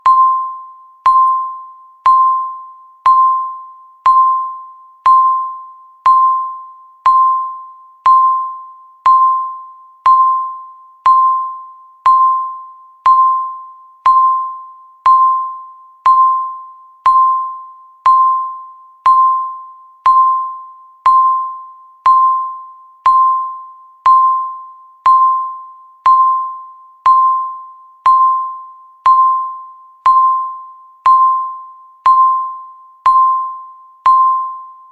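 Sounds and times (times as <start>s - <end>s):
countdown timer beeps: 0.0s - 34.9s.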